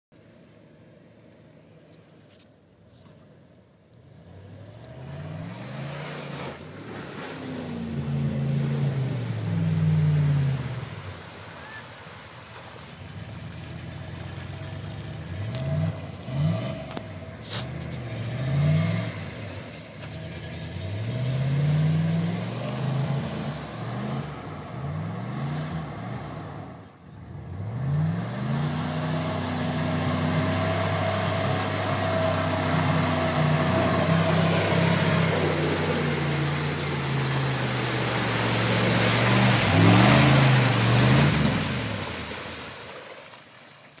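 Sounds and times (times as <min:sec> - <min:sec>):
truck engine revving: 0:04.1 - 0:11.8, 0:12.9 - 0:42.7
truck churning through mud: 0:04.1 - 0:44.0.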